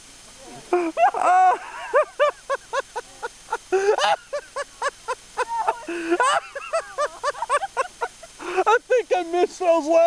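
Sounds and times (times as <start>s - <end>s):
people laughing hard: 0.7s - 9.2s.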